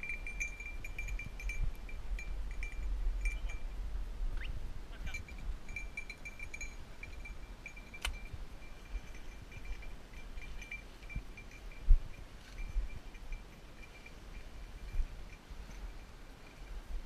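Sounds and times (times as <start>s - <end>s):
collar bell jingling: 0.0s - 3.8s, 5.0s - 17.0s
wind rumble on microphone: 0.0s - 17.0s.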